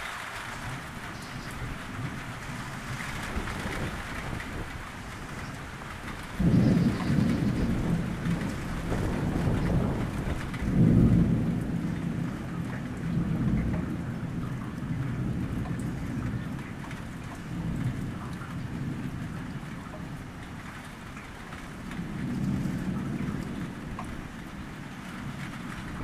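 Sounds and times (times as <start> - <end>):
low thunder rumbling: 0.0 - 26.0
rain pattering on grass and puddles: 0.0 - 26.0.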